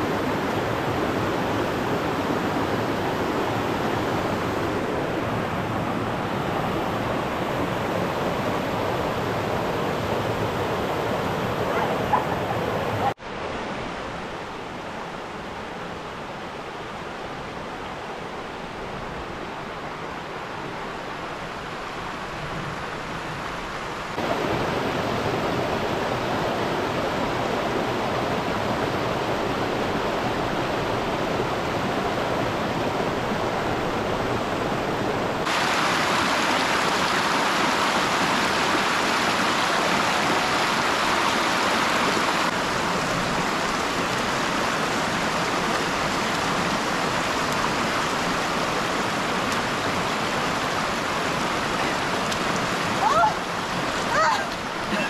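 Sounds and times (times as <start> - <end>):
creek running over rocks: 0.0 - 55.0.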